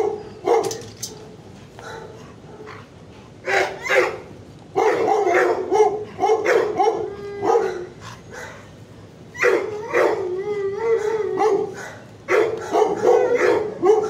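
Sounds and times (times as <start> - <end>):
dog barking: 0.0 - 8.7, 9.4 - 10.2, 11.4 - 14.0.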